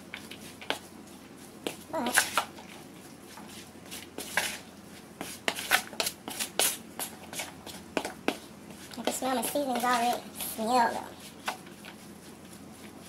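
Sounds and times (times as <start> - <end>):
wooden spoon stirring in bowl: 0.0 - 13.0.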